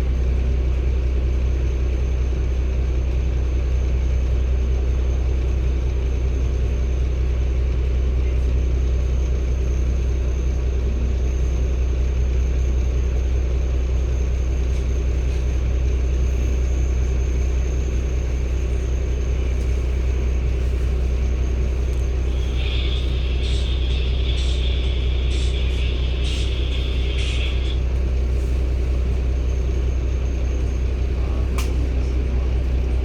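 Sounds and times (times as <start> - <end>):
diesel bus engine rumbling: 0.0 - 33.0.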